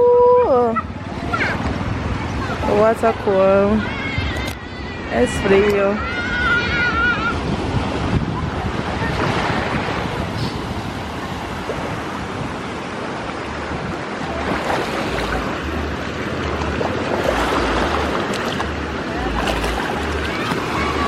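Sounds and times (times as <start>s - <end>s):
sea surf washing in and out: 0.0s - 21.0s
wind buffeting microphone: 0.0s - 21.0s.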